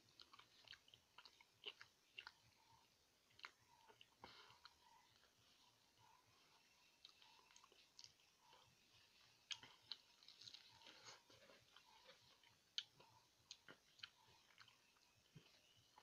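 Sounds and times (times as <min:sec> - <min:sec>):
chewing pineapple: 0:00.0 - 0:16.0.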